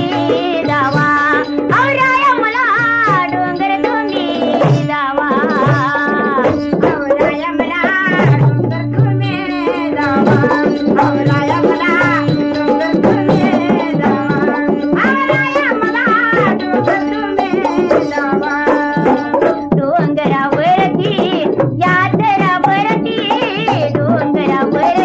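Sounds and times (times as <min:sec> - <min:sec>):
wavering vocal melody: 0:00.0 - 0:25.0.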